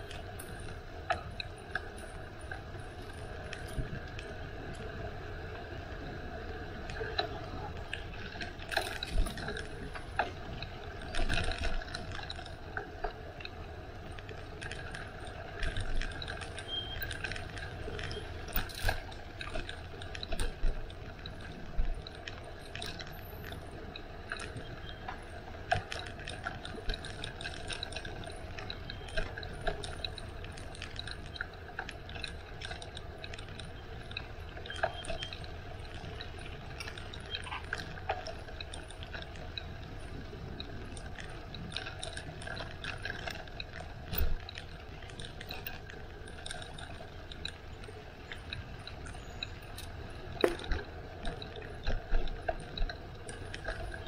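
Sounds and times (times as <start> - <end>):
bicycle tyres rolling: 0.0 - 54.0
bike mechanism clicks and rattles: 0.0 - 54.0.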